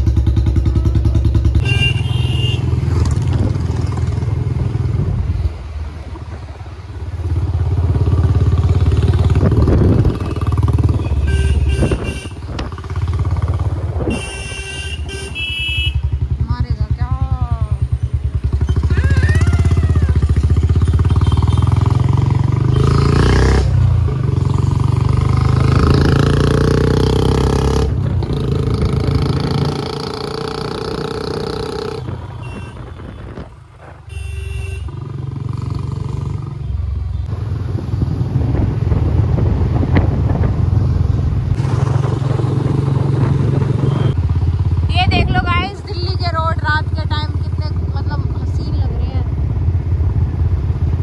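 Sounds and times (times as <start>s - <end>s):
motorcycle engine and exhaust: 0.0s - 51.0s.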